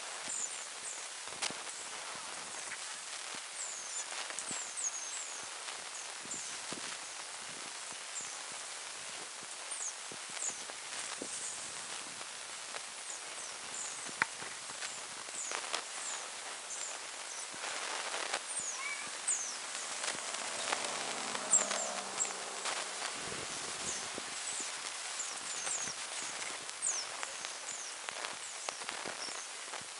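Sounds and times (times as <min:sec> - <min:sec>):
animals rustling in dry grass: 0:00.0 - 0:29.9.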